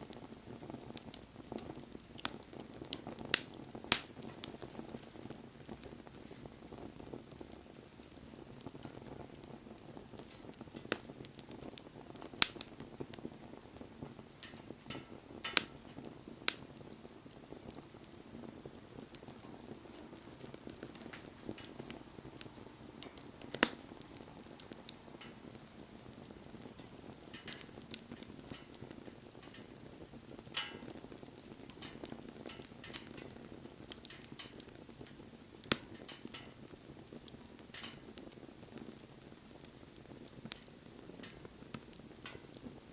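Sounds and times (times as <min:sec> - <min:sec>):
bonfire flames hissing: 0:00.0 - 0:42.9
fire crackles and pops: 0:00.0 - 0:42.9.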